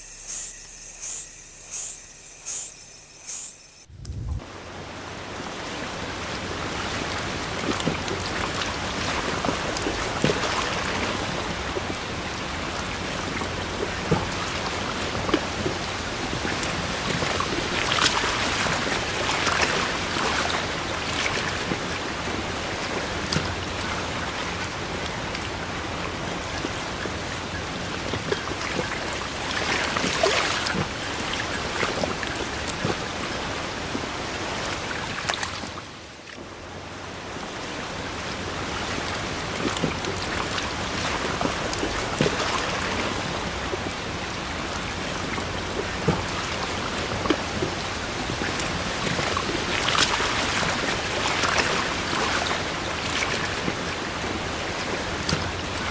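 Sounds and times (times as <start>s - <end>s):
steady water noise: 0.0s - 55.9s.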